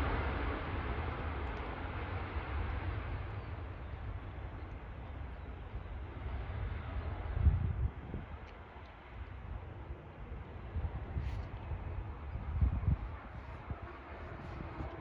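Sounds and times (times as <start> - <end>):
jet airliner engine roar: 0.0 - 15.0.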